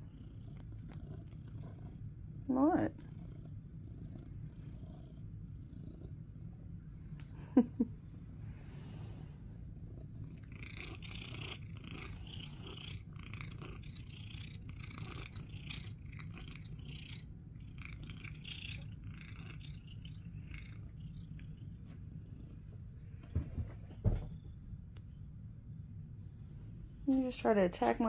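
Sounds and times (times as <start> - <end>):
cat purring: 0.0 - 24.4.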